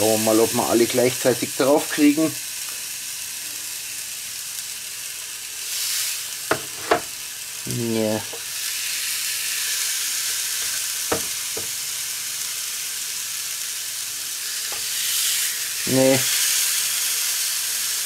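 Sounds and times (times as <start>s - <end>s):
meat sizzling on grill plates: 0.0s - 18.0s.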